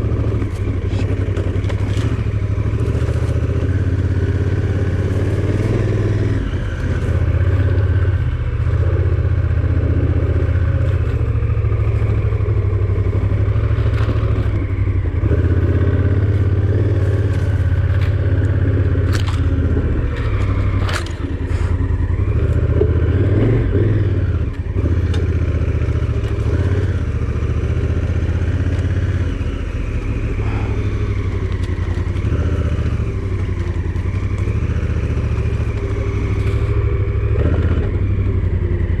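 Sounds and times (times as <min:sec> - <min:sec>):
clatter and knocks from rough road: 0:00.0 - 0:39.0
vehicle engine running: 0:00.0 - 0:39.0.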